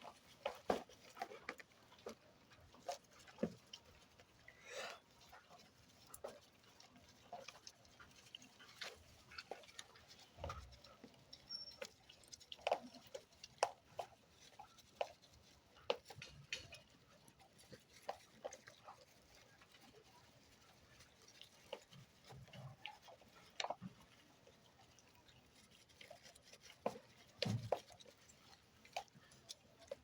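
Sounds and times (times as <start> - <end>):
goats chewing feed: 0.0 - 30.0.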